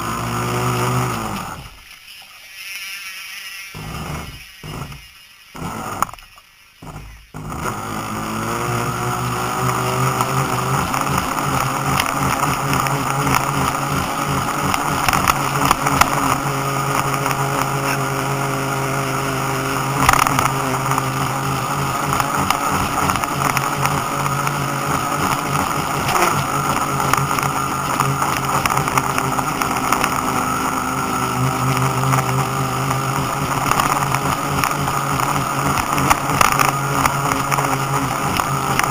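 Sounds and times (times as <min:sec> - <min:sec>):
model boat motor whining: 0:00.0 - 0:01.9, 0:03.8 - 0:38.9.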